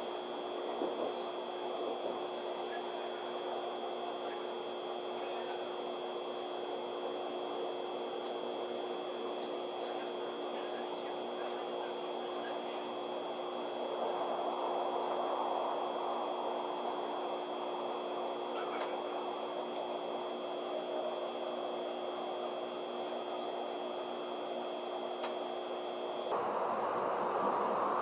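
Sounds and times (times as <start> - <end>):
high whine: 0.0 - 28.0
low hum: 0.0 - 28.0.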